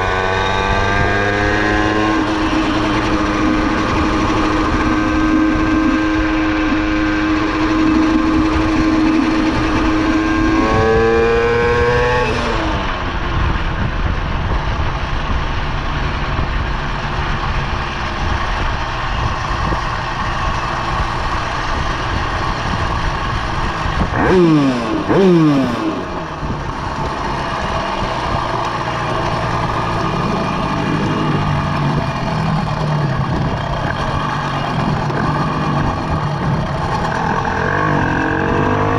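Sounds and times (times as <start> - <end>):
two-stroke engine buzzing and revving: 0.0 - 38.9.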